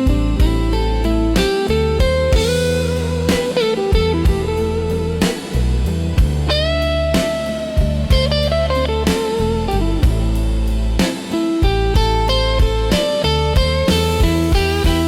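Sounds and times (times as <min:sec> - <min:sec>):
bass: 0:00.0 - 0:15.0
electric guitar playing blues: 0:00.0 - 0:15.0
drum beat: 0:01.4 - 0:15.0.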